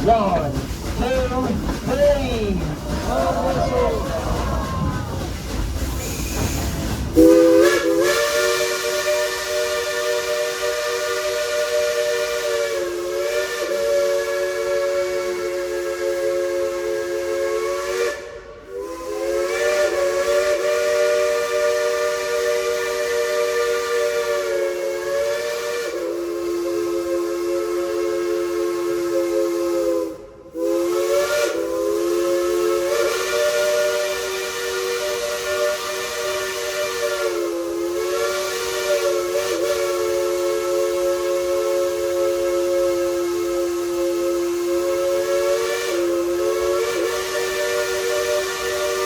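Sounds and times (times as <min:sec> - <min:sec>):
steam locomotive chime whistle: 0:06.0 - 0:49.0.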